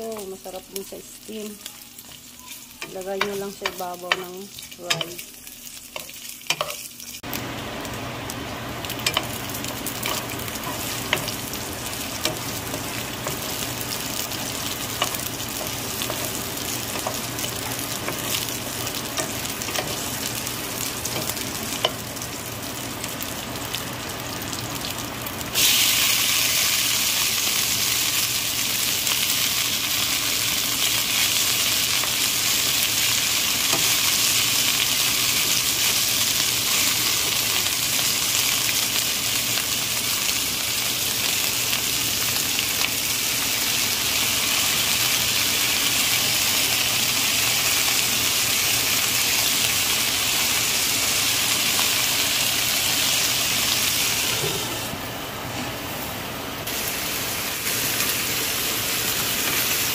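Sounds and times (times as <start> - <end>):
food sizzling in hot oil: 0.0 - 59.9.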